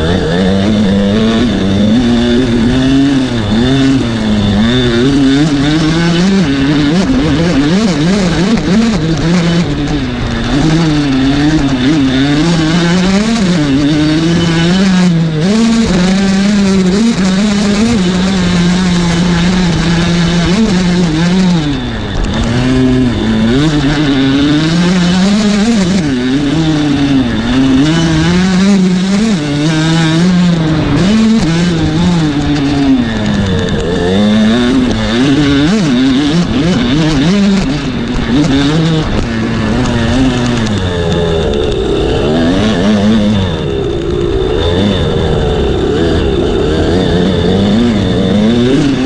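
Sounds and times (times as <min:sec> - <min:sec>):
two-stroke motorcycle engine revving: 0:00.0 - 0:49.0.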